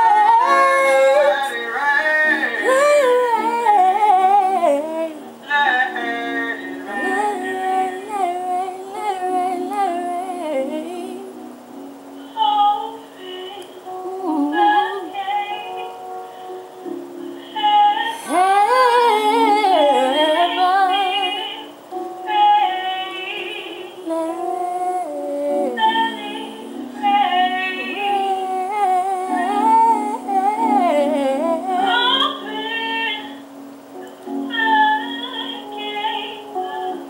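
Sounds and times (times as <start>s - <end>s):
woman singing gospel: 0.0s - 11.5s, 12.2s - 16.0s, 17.4s - 33.4s, 34.3s - 37.0s.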